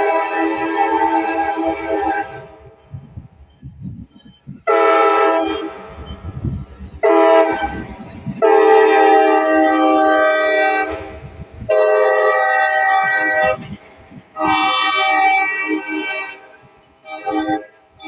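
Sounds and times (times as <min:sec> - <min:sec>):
locomotive air horn: 0:00.0 - 0:02.8, 0:04.6 - 0:06.1, 0:07.0 - 0:18.0
low rumble of passing train: 0:00.0 - 0:18.0.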